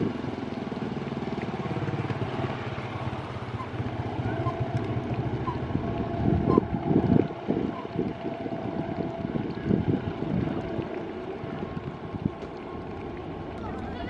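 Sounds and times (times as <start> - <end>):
passenger train rumbling past: 0.0 - 14.0
wind buffeting microphone: 0.0 - 14.0.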